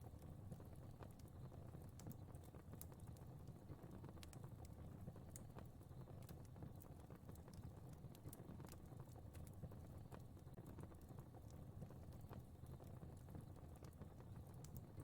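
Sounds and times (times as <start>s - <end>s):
fire crackling faintly: 0.0s - 15.0s.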